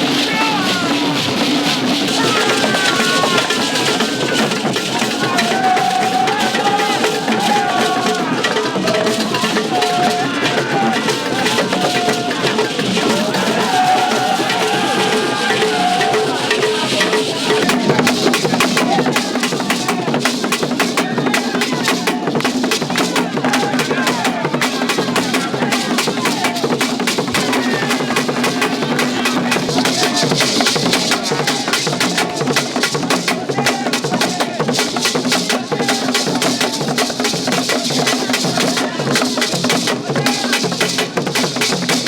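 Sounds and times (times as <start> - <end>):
drum-led music: 0.0 - 42.0.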